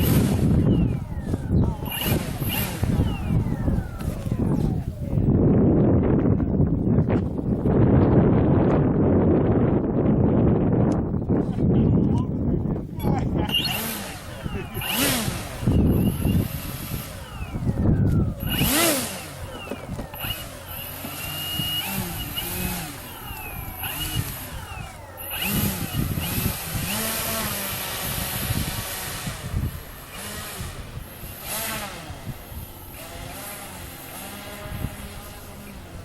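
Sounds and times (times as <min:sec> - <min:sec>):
model airplane motors whining: 0:00.0 - 0:07.7, 0:12.4 - 0:36.0
wind gusts on microphone: 0:00.0 - 0:36.0.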